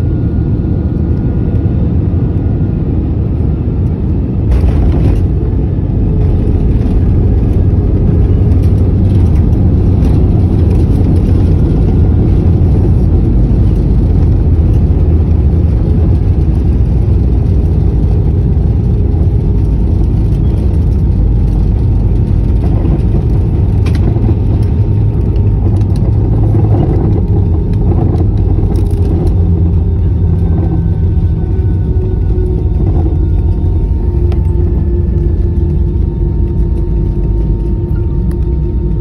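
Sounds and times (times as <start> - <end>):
airliner cabin rumble: 0.0 - 39.0.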